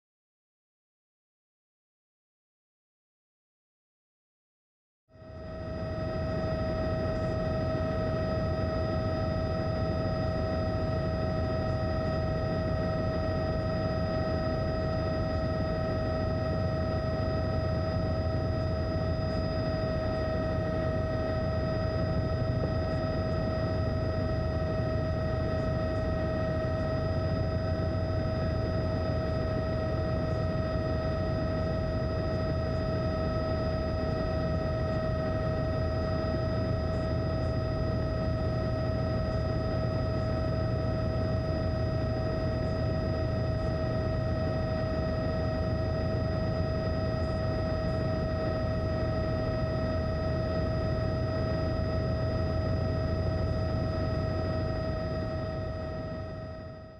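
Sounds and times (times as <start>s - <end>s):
helicopter low rumble: 5.1s - 56.9s.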